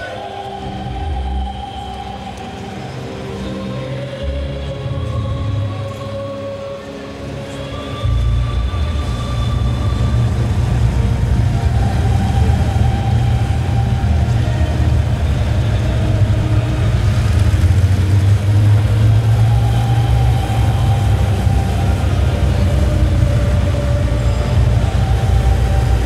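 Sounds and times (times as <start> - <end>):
aircraft engines droning: 0.0 - 26.0.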